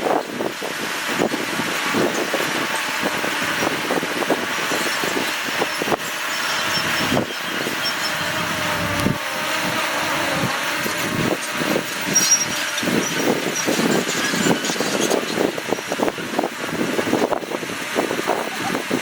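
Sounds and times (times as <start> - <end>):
diesel engine running: 0.4 - 18.4.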